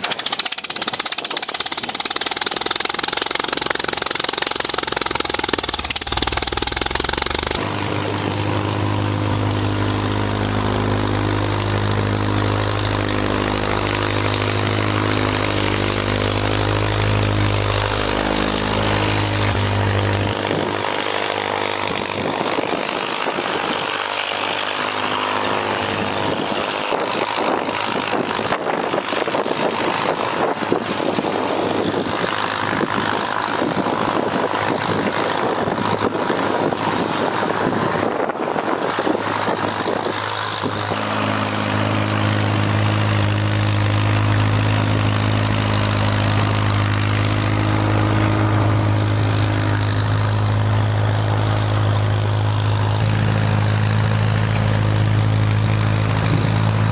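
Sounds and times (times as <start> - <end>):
atv engine running: 0.0 - 56.9
tractor engine running: 0.0 - 56.9.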